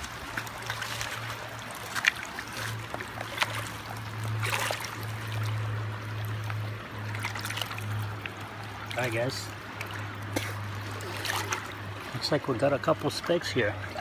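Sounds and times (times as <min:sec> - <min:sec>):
small splashes: 0:00.0 - 0:14.0
water sloshing in a pan: 0:00.0 - 0:14.0.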